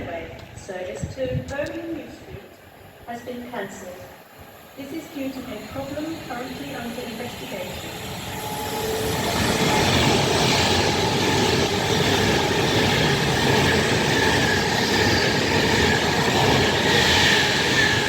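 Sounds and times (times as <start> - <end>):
train passing at speed: 2.5 - 18.0.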